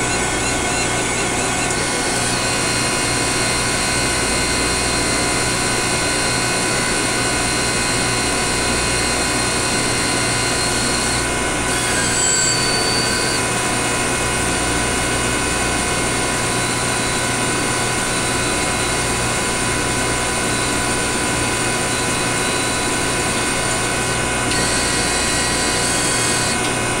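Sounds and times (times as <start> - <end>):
machine hum with whining tones: 0.0 - 27.0.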